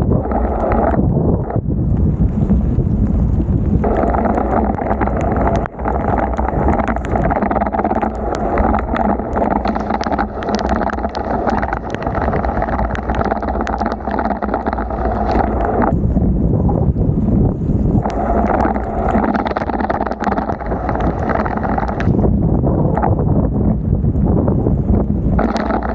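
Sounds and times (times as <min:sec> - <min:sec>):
heavy rain: 0:00.0 - 0:25.9
wet road noise from bicycle: 0:00.0 - 0:25.9
wind rush: 0:00.0 - 0:25.9.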